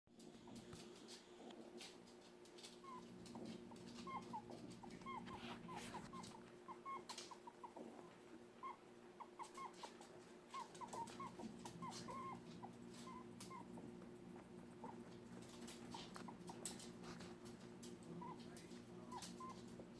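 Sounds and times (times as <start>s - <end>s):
steady low hum: 0.2s - 19.9s
small animal squeaking: 2.5s - 19.9s.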